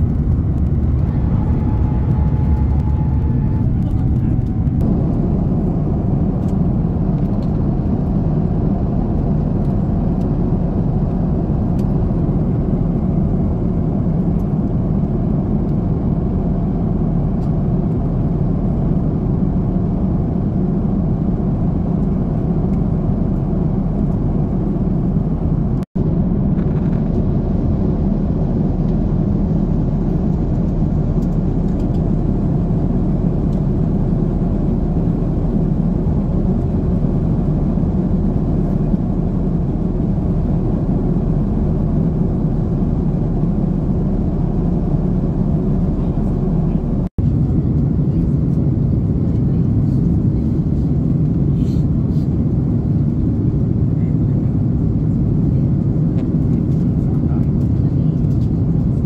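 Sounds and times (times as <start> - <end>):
airliner engine drone in cabin: 0.0 - 59.0.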